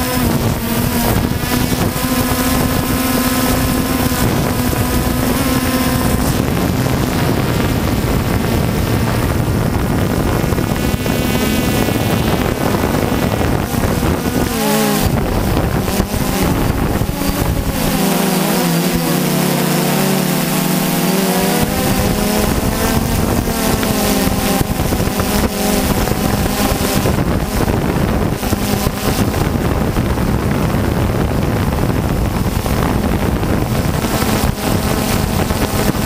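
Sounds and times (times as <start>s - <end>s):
drone propellers buzzing: 0.0s - 36.0s
wind on microphone: 0.0s - 36.0s.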